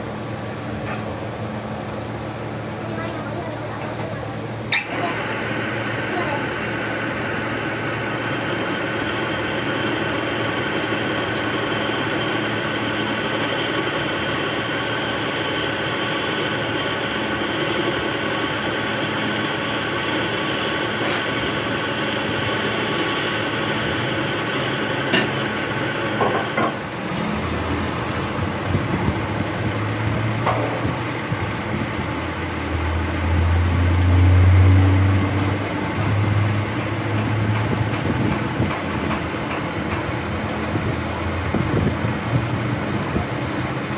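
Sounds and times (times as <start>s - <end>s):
machine whining hum: 4.5s - 43.9s.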